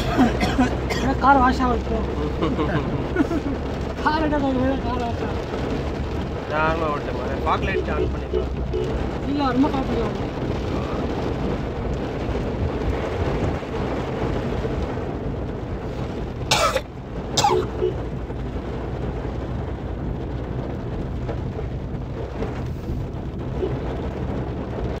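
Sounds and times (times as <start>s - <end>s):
engine and tyres on wet road: 0.0s - 25.0s.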